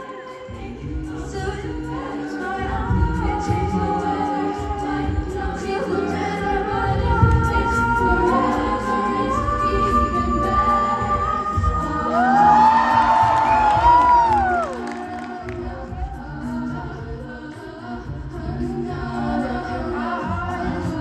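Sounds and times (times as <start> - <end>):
a cappella group singing: 0.0 - 21.0.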